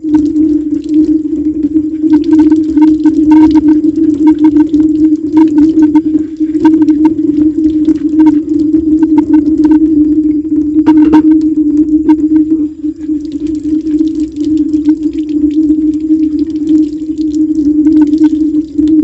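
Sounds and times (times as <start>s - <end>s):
running tap water: 0.0s - 19.0s.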